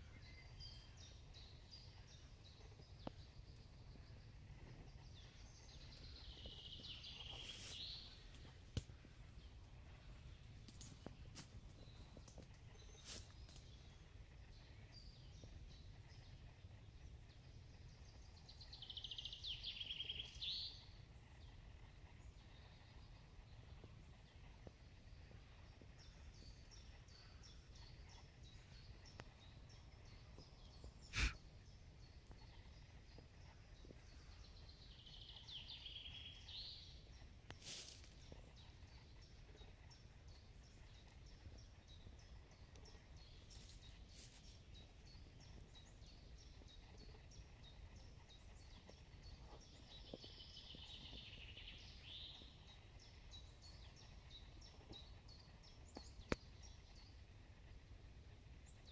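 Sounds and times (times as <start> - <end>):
songbirds chirping: 0.0 - 58.9
warbled bird song: 0.0 - 58.9.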